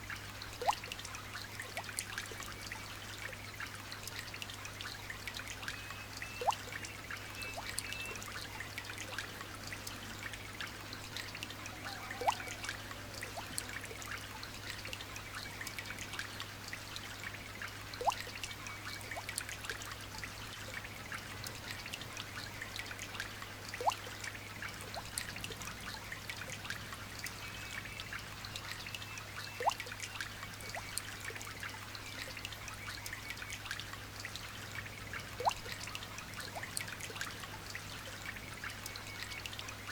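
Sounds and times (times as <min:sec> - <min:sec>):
light rain pattering: 0:00.0 - 0:39.9
water trickling and dripping: 0:00.0 - 0:39.9.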